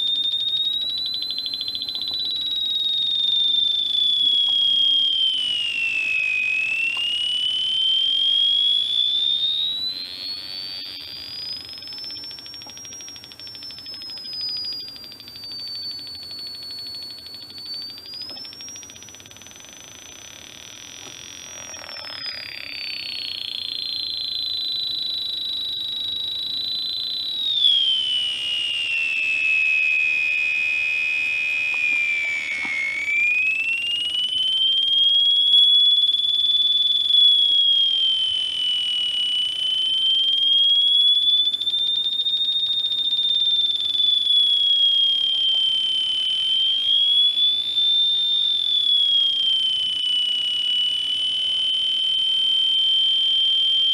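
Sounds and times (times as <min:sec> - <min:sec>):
electronic siren tone: 0:00.0 - 0:53.9.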